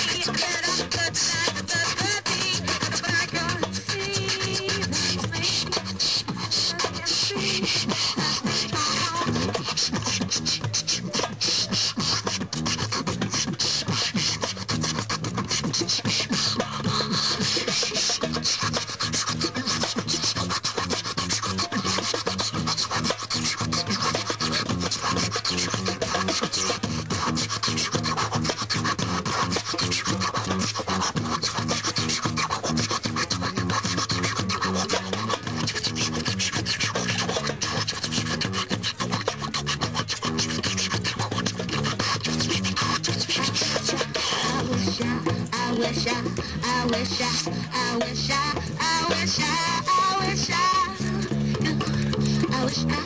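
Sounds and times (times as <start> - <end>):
beatboxing through amplifier: 0.0 - 53.0.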